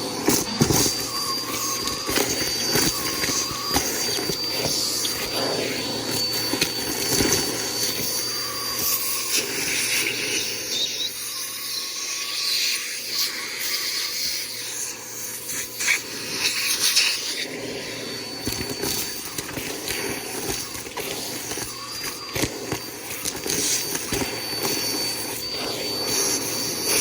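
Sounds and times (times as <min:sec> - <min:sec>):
upright vacuum running: 0:00.0 - 0:27.0.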